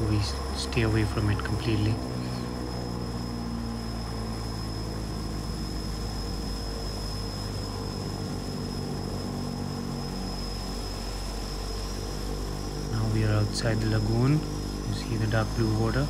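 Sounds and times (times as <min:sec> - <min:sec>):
high whine: 0:00.0 - 0:16.0
propeller engine drone: 0:00.0 - 0:16.0.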